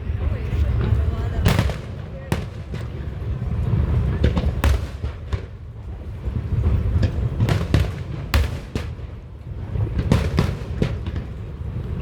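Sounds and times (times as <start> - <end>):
fireworks bangs and cracks: 0.7 - 12.0.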